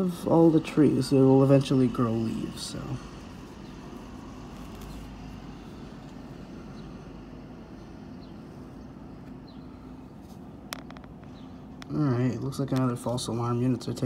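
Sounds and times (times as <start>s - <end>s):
city street traffic rumble: 0.0s - 14.0s
faint steady hum: 0.0s - 14.0s.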